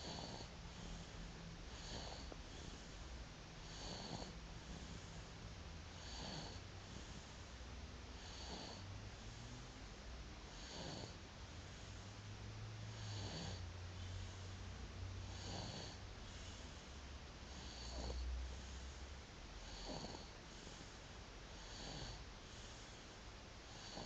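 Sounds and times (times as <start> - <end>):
baby snoring faintly: 0.0 - 24.0.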